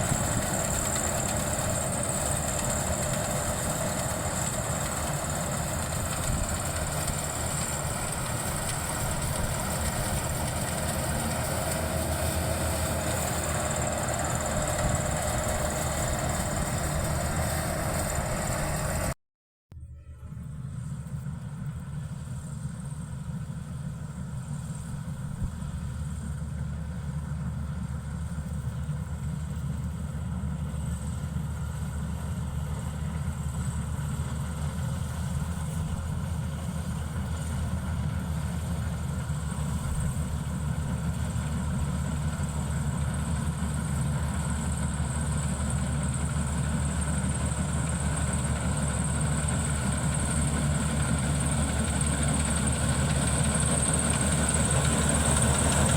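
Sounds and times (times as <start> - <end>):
combine harvester engine running: 0.0 - 19.2, 20.0 - 55.9.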